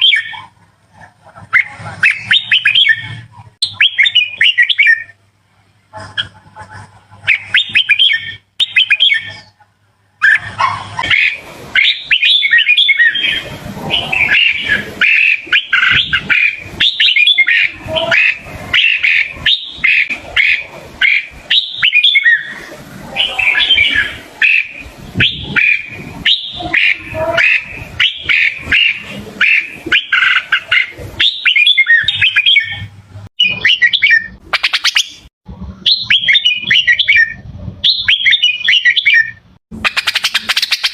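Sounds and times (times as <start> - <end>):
bird chirping whistled phrases: 0.0 - 0.5, 1.5 - 5.2, 7.3 - 9.6, 10.2 - 40.9.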